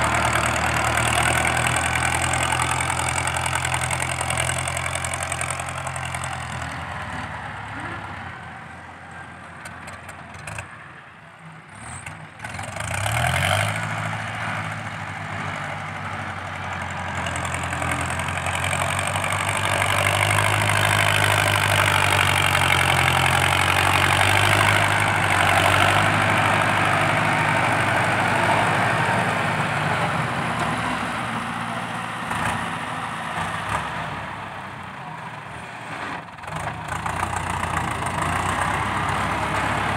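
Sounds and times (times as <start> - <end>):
tractor diesel engine: 0.0 - 39.9.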